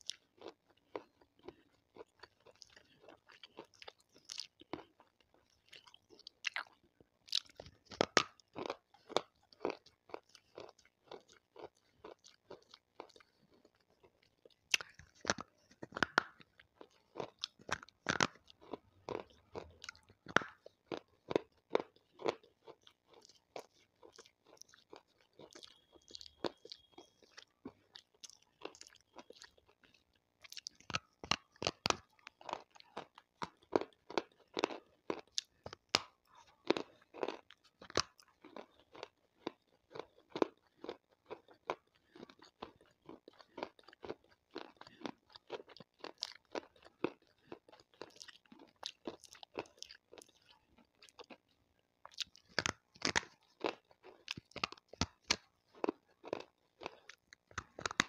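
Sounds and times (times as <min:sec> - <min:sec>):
stone being chewed with crunches: 0:00.0 - 0:58.0.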